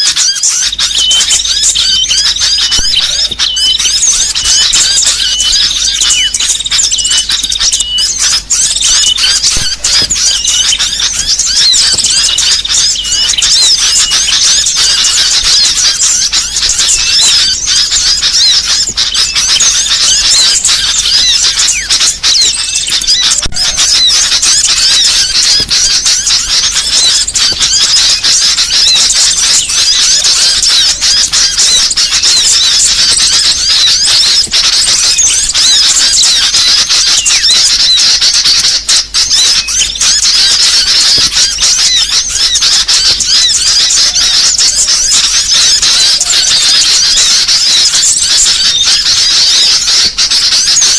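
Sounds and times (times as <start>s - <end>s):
small songbirds chirping: 0.0s - 50.9s.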